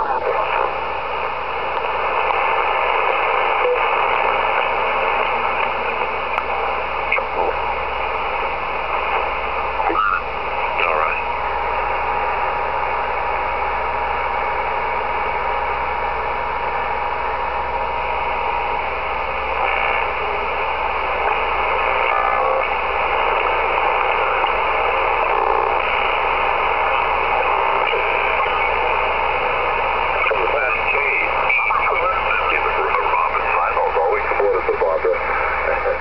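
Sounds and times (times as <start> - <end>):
steady radio whistle: 0.0 - 12.6, 16.7 - 36.0
radio signals tuned through: 0.0 - 36.0
radio static and hiss: 0.0 - 36.0.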